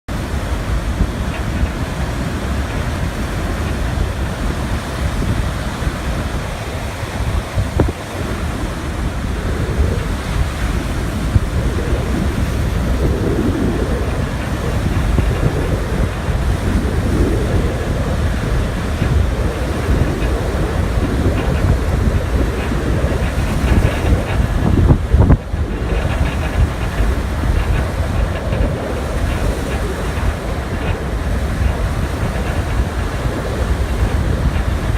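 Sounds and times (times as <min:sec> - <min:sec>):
ocean surf washing ashore: 0:00.1 - 0:34.9
wind buffeting microphone: 0:00.1 - 0:34.9.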